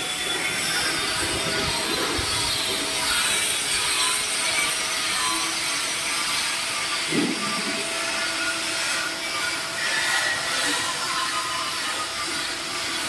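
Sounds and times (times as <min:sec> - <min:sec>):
welding arc hissing: 0:00.0 - 0:13.0.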